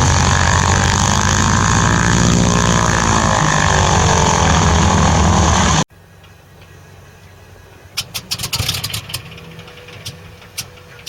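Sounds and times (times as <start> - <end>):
propeller aircraft engine running: 0.0 - 11.0.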